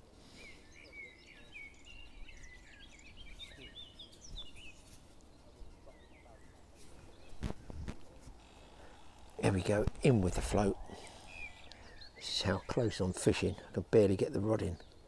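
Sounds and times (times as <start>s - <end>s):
faint outdoor background noise: 0.0s - 15.0s
songbird twittering: 0.3s - 15.0s.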